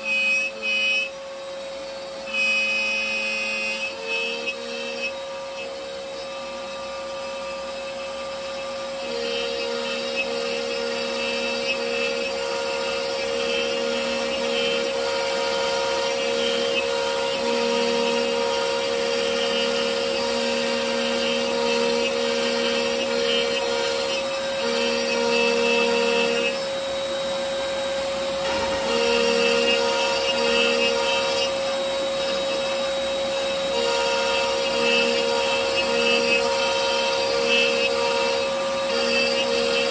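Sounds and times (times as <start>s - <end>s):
router bit cutting wood: 0.0s - 39.9s
router spindle high tone: 0.0s - 39.9s.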